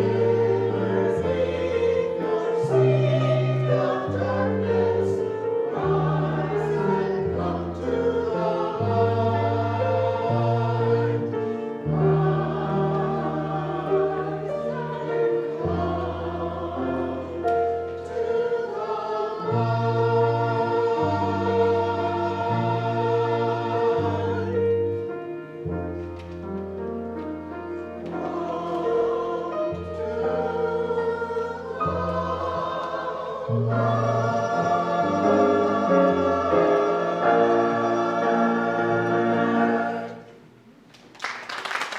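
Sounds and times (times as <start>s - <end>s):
choir singing a hymn: 0.0s - 40.6s.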